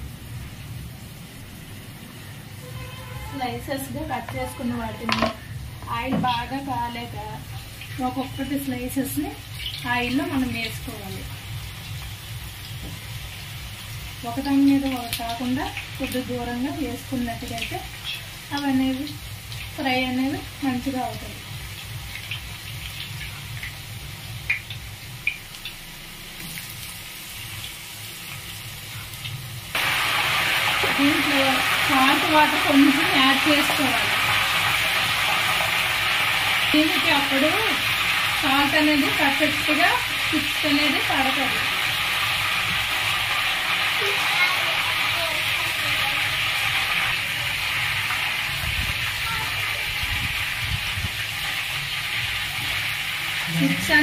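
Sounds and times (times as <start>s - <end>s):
potato slices sizzling in hot oil: 0.0s - 54.0s
oil crackles and pops: 9.1s - 53.5s.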